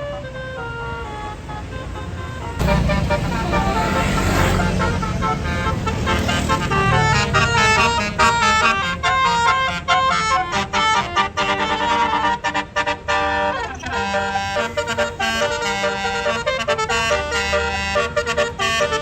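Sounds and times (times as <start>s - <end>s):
multi-tone bus air horns melody: 0.0s - 19.0s.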